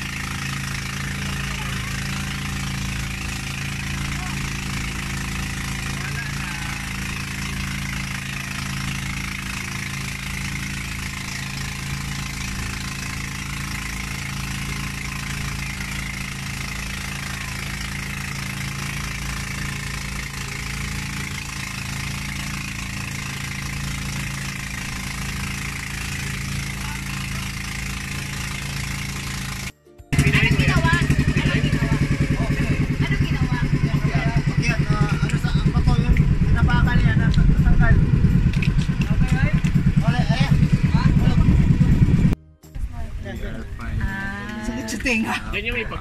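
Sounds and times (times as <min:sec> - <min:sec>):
boat engine running: 0:00.0 - 0:46.0.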